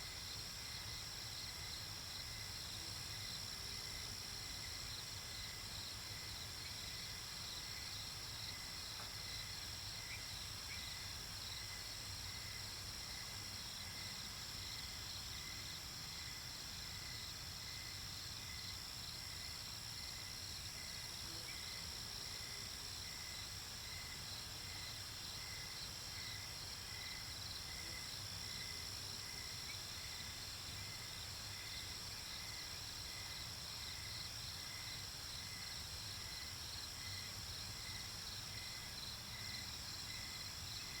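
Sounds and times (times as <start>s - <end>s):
insect chirping: 0.2s - 41.0s.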